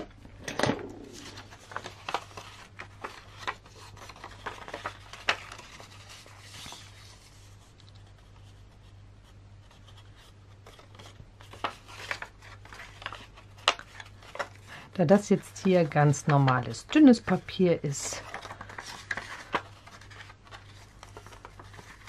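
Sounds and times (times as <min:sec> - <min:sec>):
paper rustling and crinkling: 0:00.0 - 0:08.6, 0:09.7 - 0:22.0.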